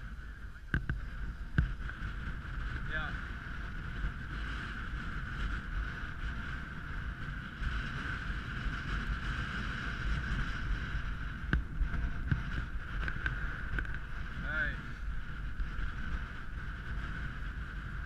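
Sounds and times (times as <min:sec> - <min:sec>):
skis carving snow: 0:00.0 - 0:18.0
wind rushing over microphone: 0:00.0 - 0:18.0.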